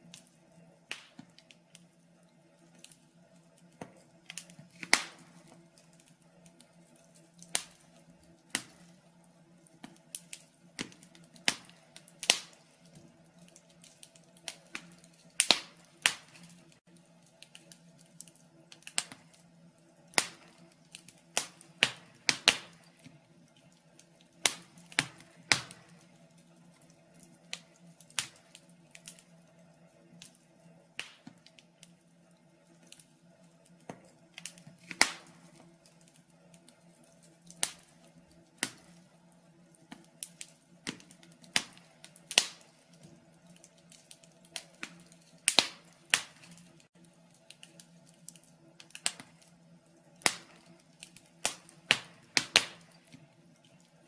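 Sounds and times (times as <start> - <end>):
faint steady hum: 0.0 - 54.0
wood fire crackling: 0.0 - 54.0.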